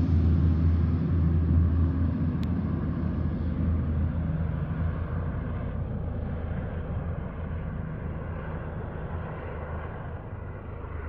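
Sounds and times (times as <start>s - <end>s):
small airplane engine drone: 0.0s - 11.0s.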